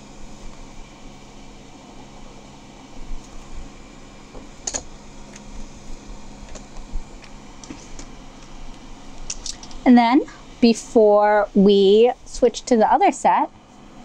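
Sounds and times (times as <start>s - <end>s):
low room hum and hiss: 0.0s - 14.0s.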